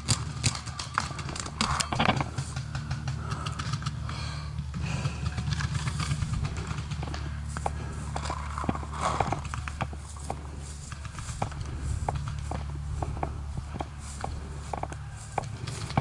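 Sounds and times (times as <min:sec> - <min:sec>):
running footsteps on grass: 0:00.0 - 0:16.0
steady low rumble: 0:00.0 - 0:16.0.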